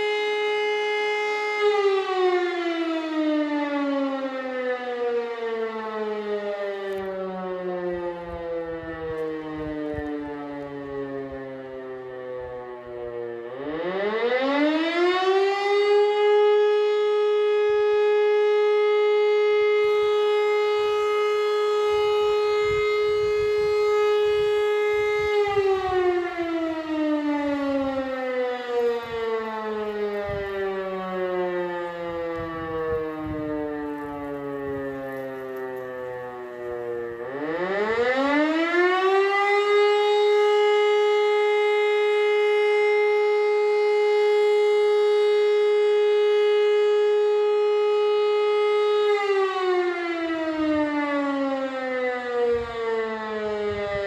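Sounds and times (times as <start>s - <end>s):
warning siren howling: 0.0s - 54.0s.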